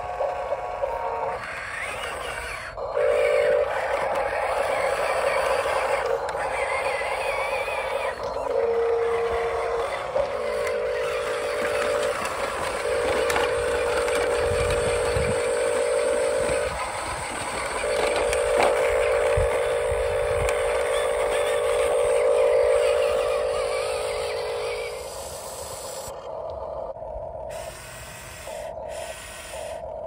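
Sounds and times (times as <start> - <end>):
constant rattle: 0.0 - 26.2
electric motors whining: 0.0 - 30.0.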